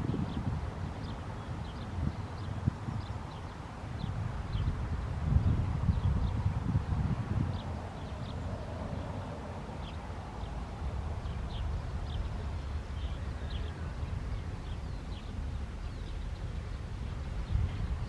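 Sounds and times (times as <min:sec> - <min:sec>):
small birds chirping: 0:00.0 - 0:06.7, 0:07.4 - 0:18.0
wind rumble on microphone: 0:00.0 - 0:18.0.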